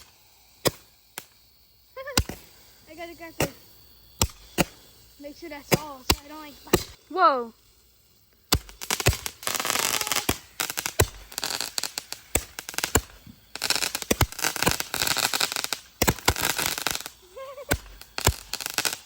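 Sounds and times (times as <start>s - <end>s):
fireworks popping and banging: 0.0s - 7.1s, 8.3s - 19.0s.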